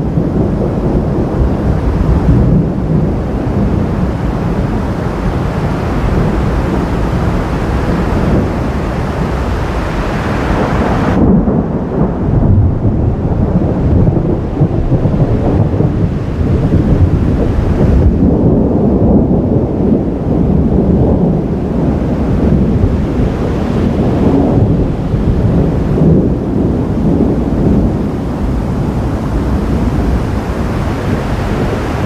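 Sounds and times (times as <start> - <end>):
rolling thunder: 0.0 - 32.0.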